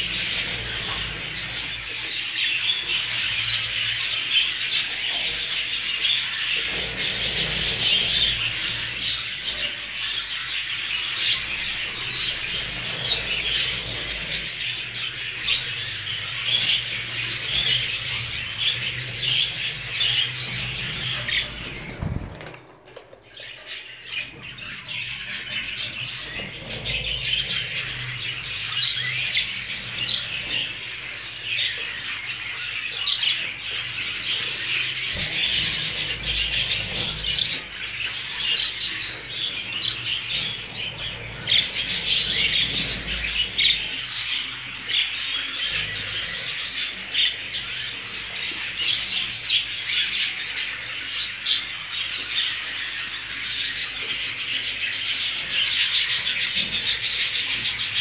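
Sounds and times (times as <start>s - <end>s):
budgerigars chattering: 0.0s - 22.6s, 23.3s - 58.0s.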